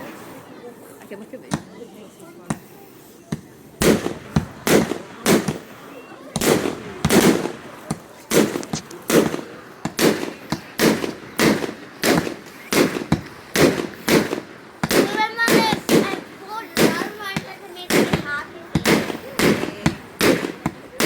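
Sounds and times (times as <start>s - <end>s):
fireworks banging: 0.0s - 21.0s.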